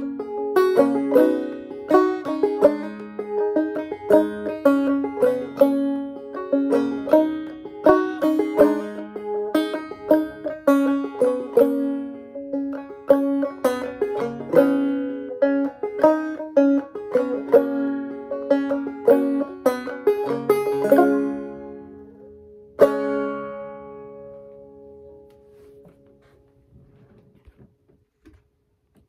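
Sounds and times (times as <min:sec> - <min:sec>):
banjo playing: 0:00.0 - 0:25.9.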